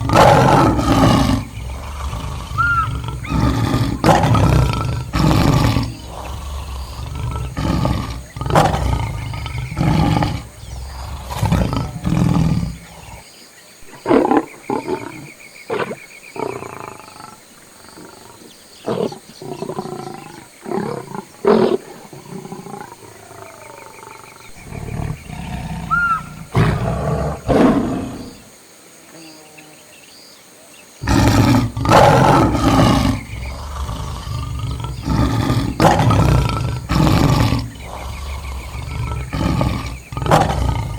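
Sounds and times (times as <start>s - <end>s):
lion roaring and grunting: 0.0s - 13.2s, 13.9s - 28.4s, 31.0s - 40.9s.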